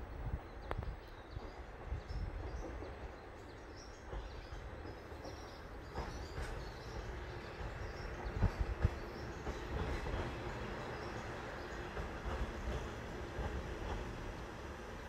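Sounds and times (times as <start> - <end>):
diesel railcar rumble: 0.0 - 15.0.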